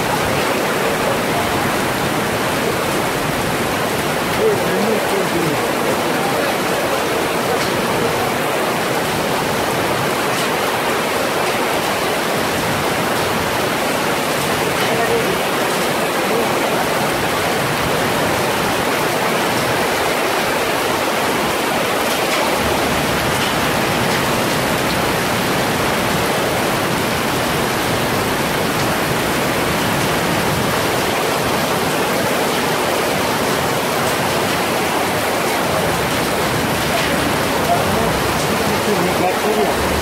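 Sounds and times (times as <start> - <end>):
heavy rain on pavement: 0.0 - 40.0.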